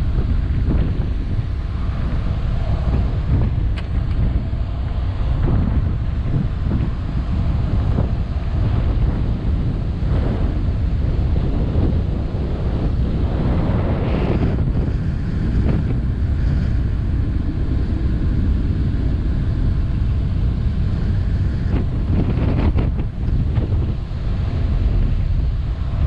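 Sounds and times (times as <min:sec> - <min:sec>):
low engine rumble: 0:00.0 - 0:26.0
water rushing along hull: 0:00.0 - 0:26.0
wind buffeting microphone: 0:00.0 - 0:26.0.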